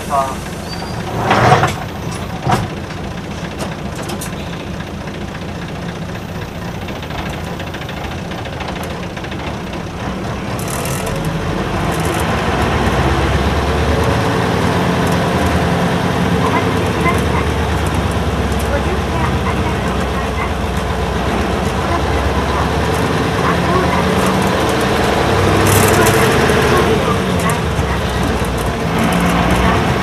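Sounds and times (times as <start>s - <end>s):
diesel bus engine running: 0.0s - 30.0s.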